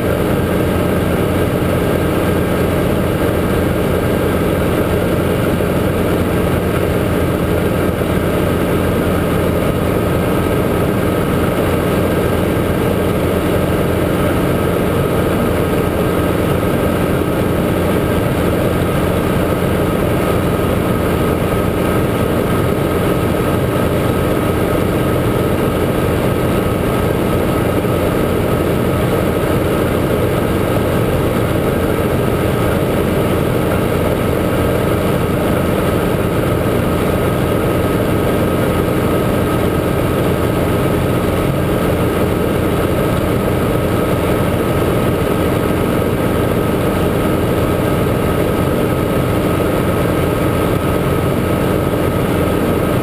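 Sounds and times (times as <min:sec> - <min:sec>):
helicopter engine and rotors: 0:00.0 - 0:53.0.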